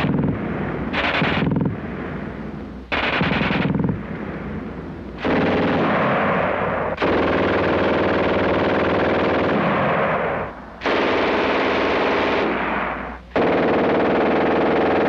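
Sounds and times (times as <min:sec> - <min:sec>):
machine-gun fire: 0:00.0 - 0:01.8, 0:02.9 - 0:04.0, 0:05.2 - 0:15.0.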